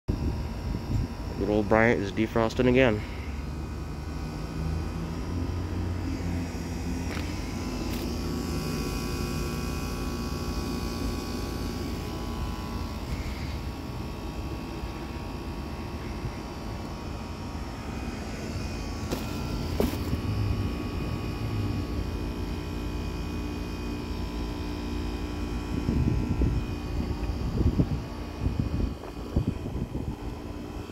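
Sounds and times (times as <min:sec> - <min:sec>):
compressor hum: 0:00.1 - 0:30.9.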